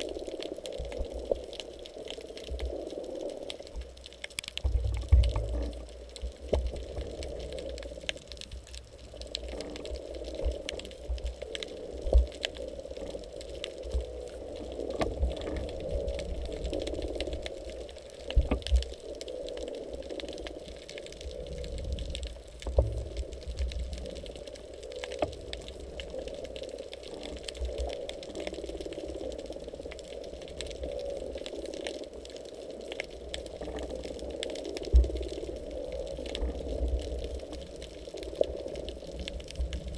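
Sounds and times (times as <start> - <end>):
muffled underwater wash: 0.0 - 39.9.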